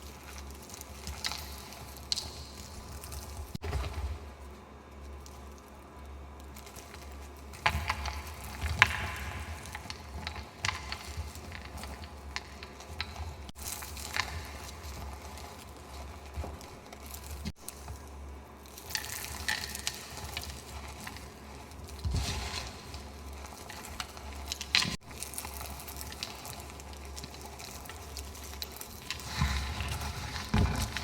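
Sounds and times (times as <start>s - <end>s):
chalk crumbling and crunching: 0.0s - 31.0s.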